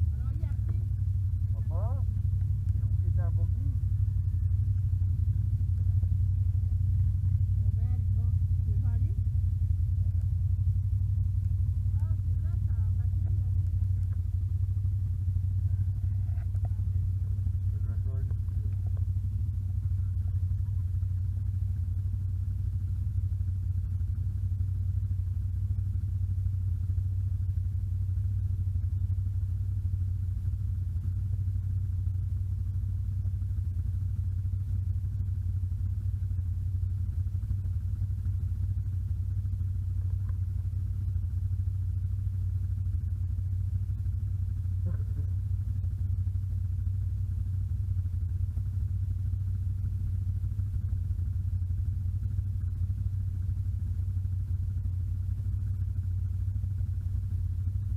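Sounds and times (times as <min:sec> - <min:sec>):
engine droning: 0:00.0 - 0:57.9.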